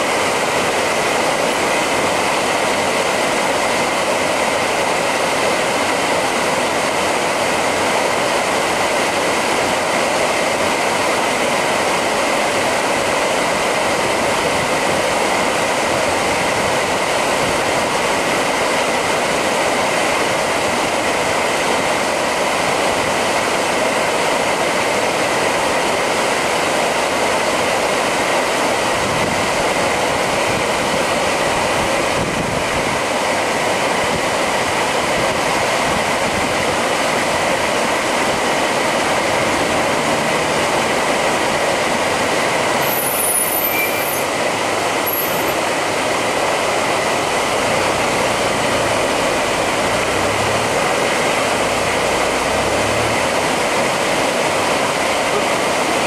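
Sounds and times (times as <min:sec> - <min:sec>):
water rushing down a canal: 0:00.0 - 0:56.0.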